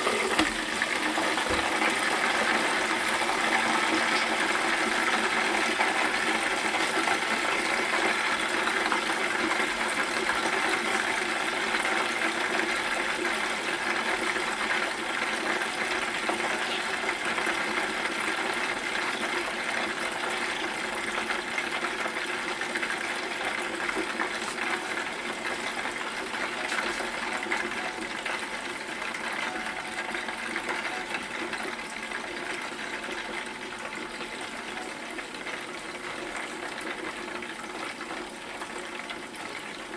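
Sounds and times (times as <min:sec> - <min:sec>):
meat sizzling in oil: 0:00.0 - 0:39.9.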